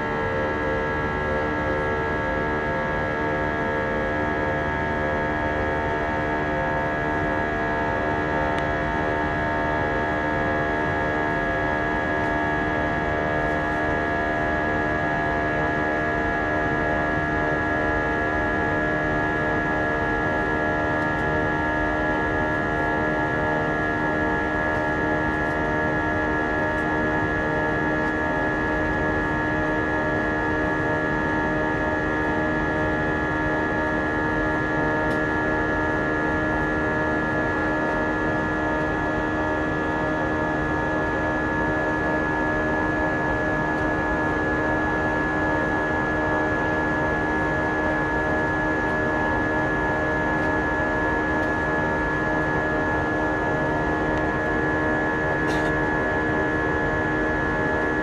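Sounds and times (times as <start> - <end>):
jet engine hum and whine: 0.0 - 58.0.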